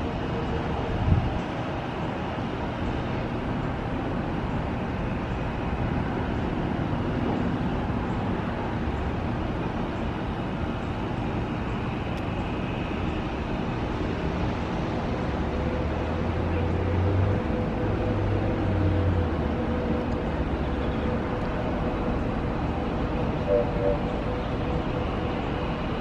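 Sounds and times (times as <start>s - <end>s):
distant traffic rumble: 0.0s - 26.0s.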